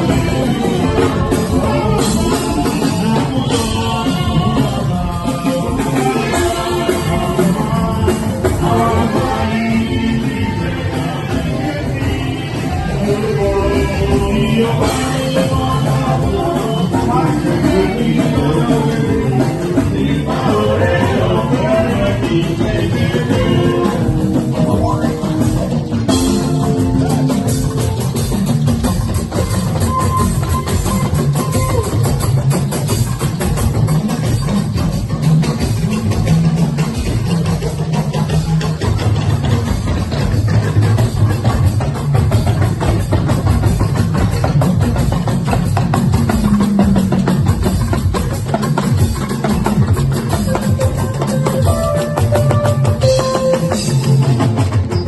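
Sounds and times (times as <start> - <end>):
instrumental music with steady beat: 0.0 - 55.0.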